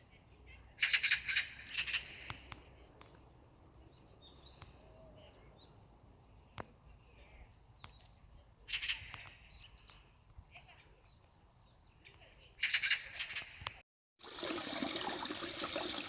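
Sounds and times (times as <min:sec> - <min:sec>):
birds calling: 0:00.2 - 0:13.7.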